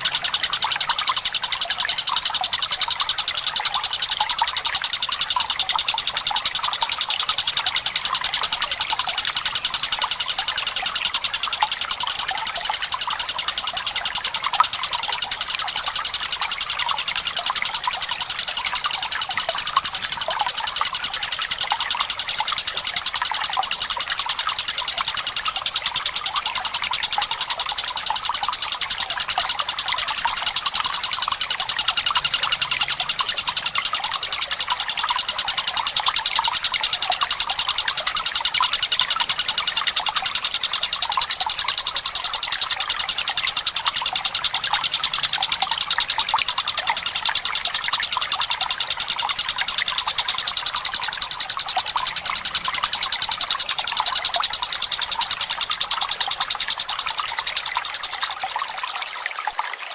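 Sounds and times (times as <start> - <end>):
kingfisher rattling trill: 0.0 - 58.2
trickling water: 0.0 - 59.9.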